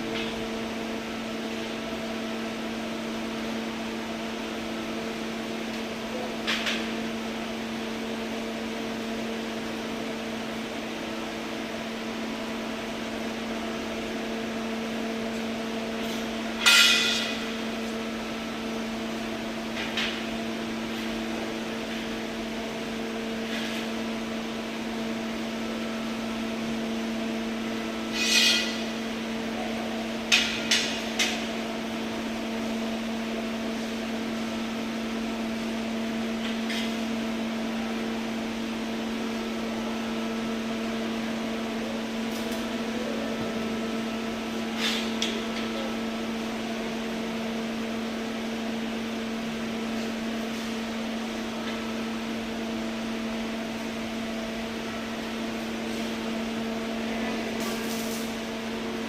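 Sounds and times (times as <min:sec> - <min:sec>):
welding machine humming: 0:09.2 - 0:59.0.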